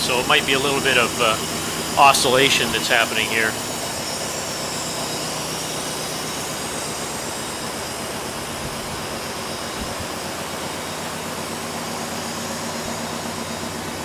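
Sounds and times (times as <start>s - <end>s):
rotary engine idling: 0.0s - 14.0s.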